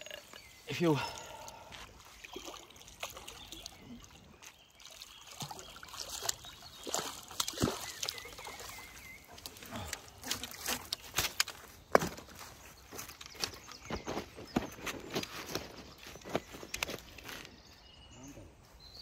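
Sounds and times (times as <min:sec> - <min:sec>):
water splashing and trickling: 0:00.0 - 0:17.5.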